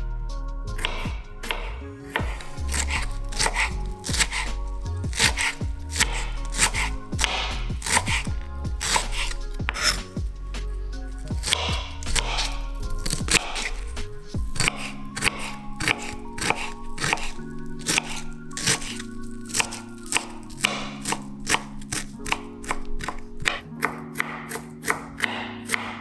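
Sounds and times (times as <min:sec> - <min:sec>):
knife chopping broccoli: 0:00.8 - 0:10.3, 0:11.2 - 0:26.0.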